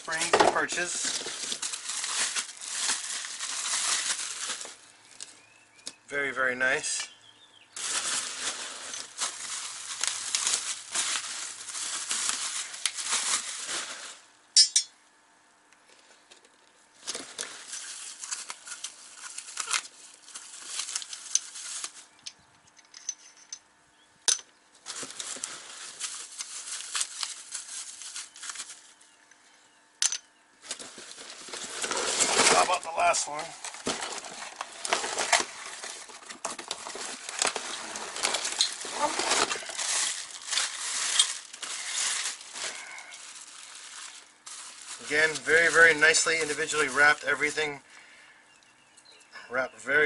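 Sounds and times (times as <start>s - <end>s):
plastic and bubble wrap crinkling: 0.0s - 7.1s, 7.7s - 14.4s, 15.8s - 22.4s, 24.7s - 29.5s, 30.6s - 47.9s.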